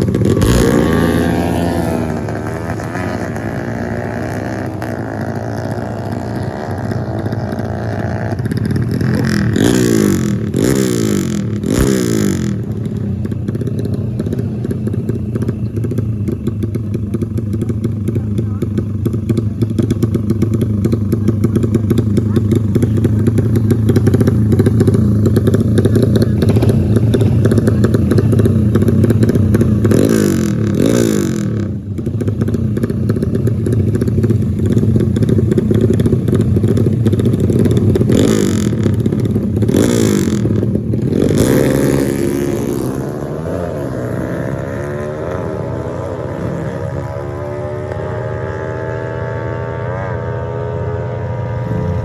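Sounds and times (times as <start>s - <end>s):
dirt bike engine revving: 0.0s - 18.6s, 19.8s - 52.0s.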